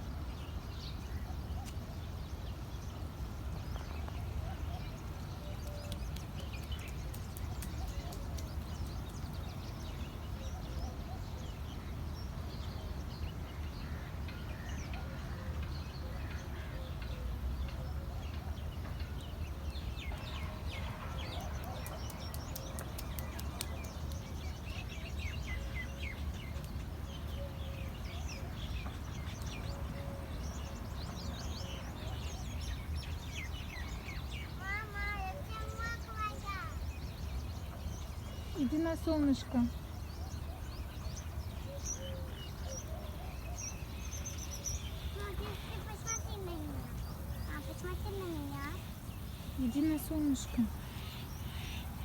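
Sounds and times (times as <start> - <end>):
small birds chirping: 0.4 - 15.0, 17.5 - 52.0.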